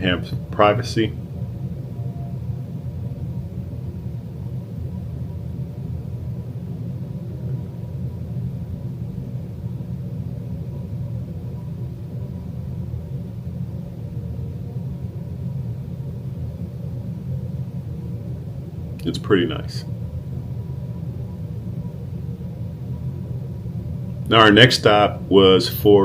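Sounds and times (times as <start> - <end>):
faint hum: 0.0 - 26.0
low background rumble: 0.0 - 26.0.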